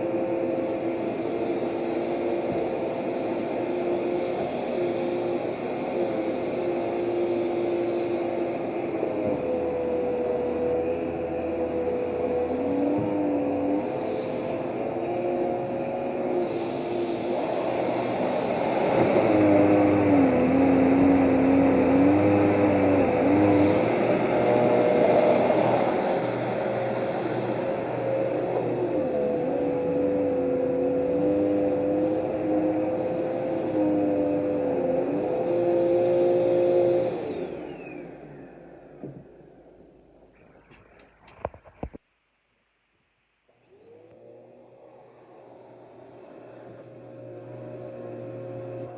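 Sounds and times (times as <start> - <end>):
vacuum cleaner motor whining: 0.0 - 42.0, 43.7 - 48.9.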